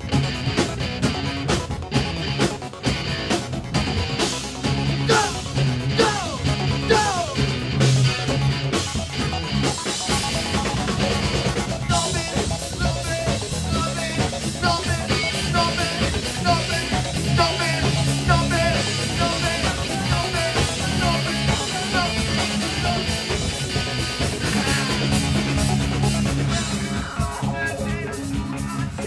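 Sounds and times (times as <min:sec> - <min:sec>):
bass guitar: 0:00.0 - 0:29.0
drum kit: 0:00.0 - 0:29.0
lead guitar with bent notes: 0:00.0 - 0:29.0.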